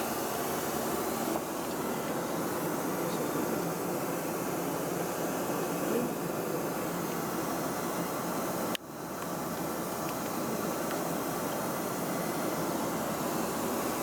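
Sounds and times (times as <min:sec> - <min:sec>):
airliner cabin engine and airflow noise: 0:00.0 - 0:14.0.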